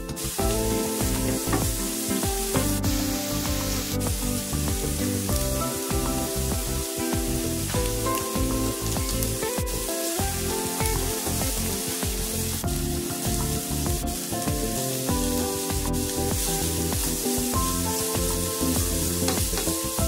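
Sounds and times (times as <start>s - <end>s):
onion sizzling in oil: 0.0s - 20.0s.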